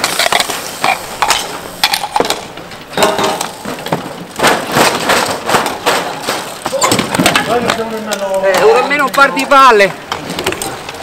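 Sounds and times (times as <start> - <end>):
mallets clacking and knocking: 0.0 - 9.4.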